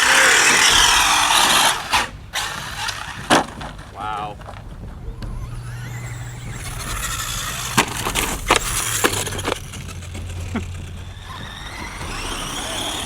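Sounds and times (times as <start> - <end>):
toy truck motor whining: 0.0 - 13.0
truck knocking on dirt: 0.0 - 13.0.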